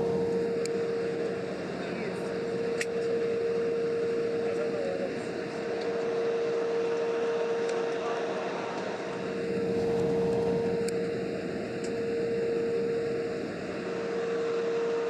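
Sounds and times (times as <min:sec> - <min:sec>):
airliner cabin drone: 0:00.0 - 0:15.0
constant humming tone: 0:00.0 - 0:15.0.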